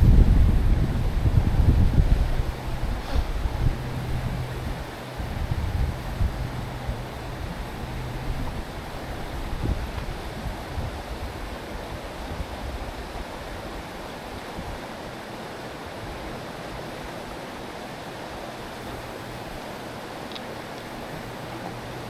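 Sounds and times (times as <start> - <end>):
stream water rushing: 0.0 - 22.0
wind rumble on microphone: 0.0 - 22.0.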